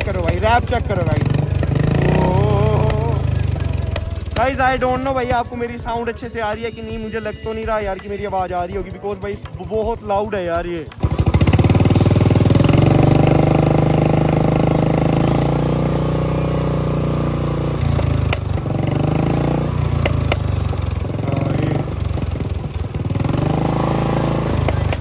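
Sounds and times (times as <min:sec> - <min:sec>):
exhaust cracks: 0:00.0 - 0:06.5, 0:07.8 - 0:25.0
motorcycle engine revving: 0:00.0 - 0:25.0.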